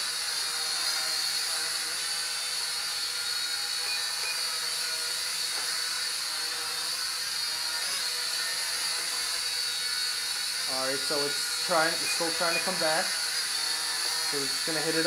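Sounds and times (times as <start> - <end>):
toy quadcopter whine: 0.0 - 15.0.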